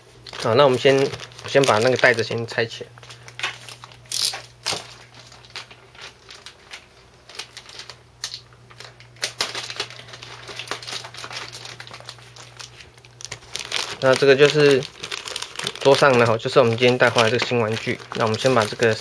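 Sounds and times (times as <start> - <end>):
plastic bag crinkling: 0.1 - 19.0.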